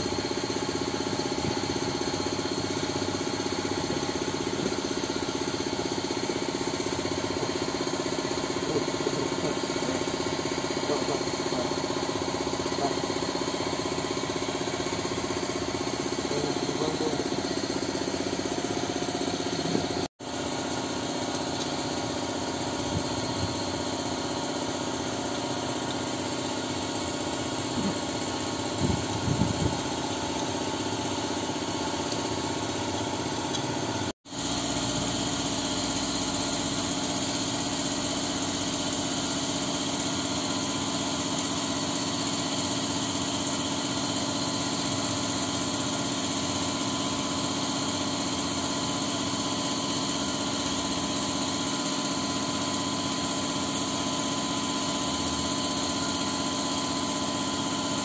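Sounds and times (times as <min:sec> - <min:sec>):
engine idling: 0:00.0 - 0:57.5.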